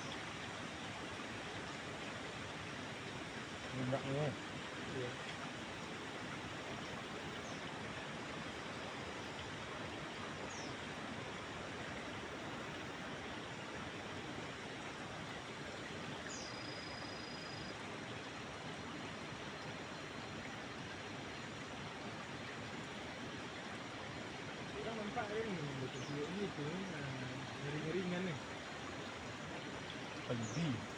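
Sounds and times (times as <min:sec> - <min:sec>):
flowing stream: 0:00.0 - 0:30.9.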